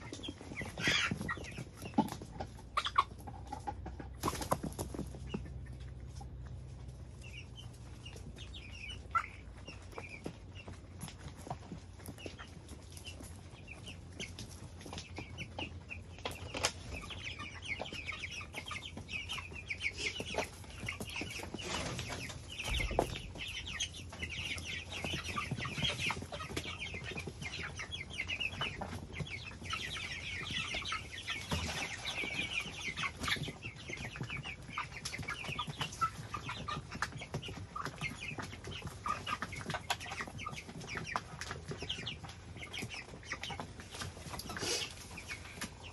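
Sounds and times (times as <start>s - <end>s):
chicks peeping and clucking: 0.0s - 45.9s.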